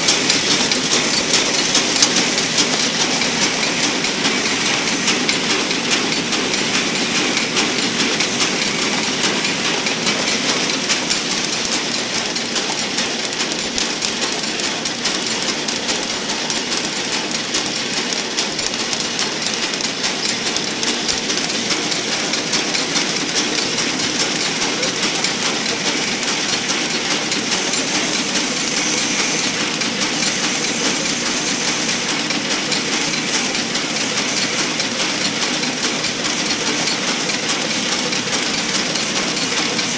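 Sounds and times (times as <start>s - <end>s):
packing machine clattering: 0.0s - 39.9s.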